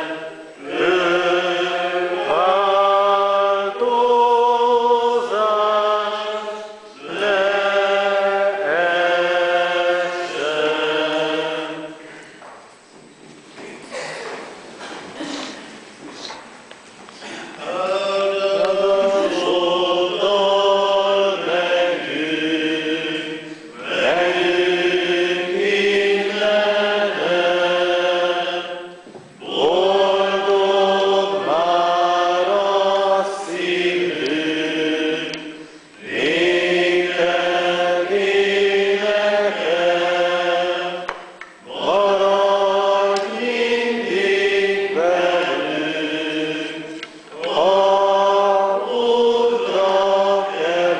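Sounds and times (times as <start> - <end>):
congregation singing a hymn: 0.0 - 12.6, 17.2 - 50.9.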